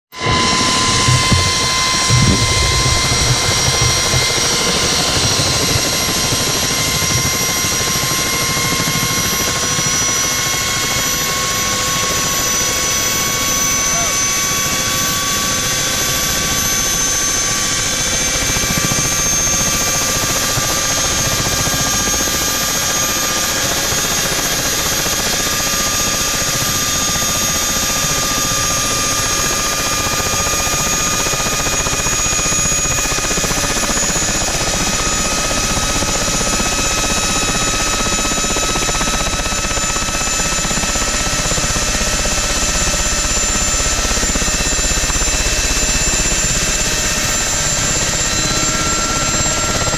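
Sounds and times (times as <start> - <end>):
helicopter engine and rotor drone: 0.1 - 49.9.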